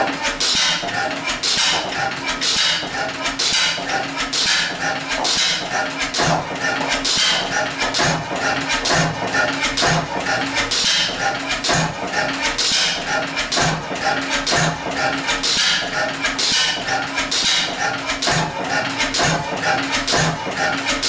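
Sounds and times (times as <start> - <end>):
stationary engine running: 0.0 - 21.0
valve gear knock and clatter: 0.0 - 21.0.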